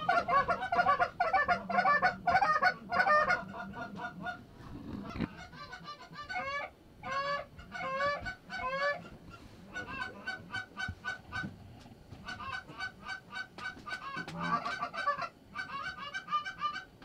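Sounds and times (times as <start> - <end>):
geese honking: 0.0 - 11.6, 12.2 - 17.0
geese clucking: 0.0 - 17.0.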